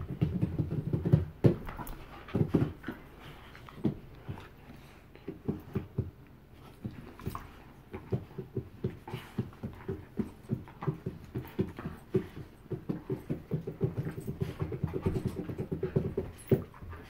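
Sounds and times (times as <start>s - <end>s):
dogs play-fighting thuds and scuffles: 0.0s - 17.0s.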